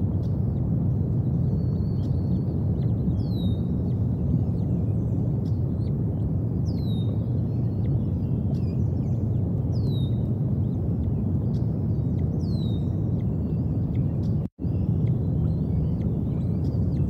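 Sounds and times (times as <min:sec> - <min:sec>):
songbird whistle: 0:01.4 - 0:06.0, 0:06.6 - 0:10.3, 0:11.0 - 0:17.0.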